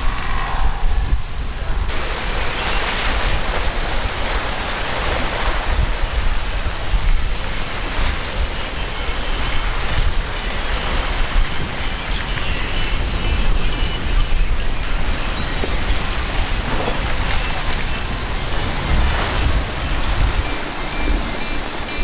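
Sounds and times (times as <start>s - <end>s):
breaking surf: 0.0s - 22.0s
wind buffeting microphone: 0.0s - 22.0s.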